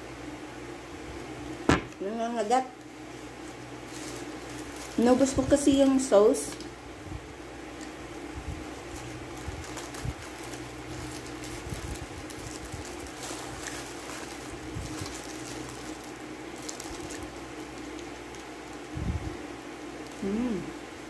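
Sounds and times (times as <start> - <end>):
steady low hum: 0.0 - 21.0
plastic wrap crinkling: 1.5 - 6.8, 7.7 - 19.0, 19.8 - 20.3.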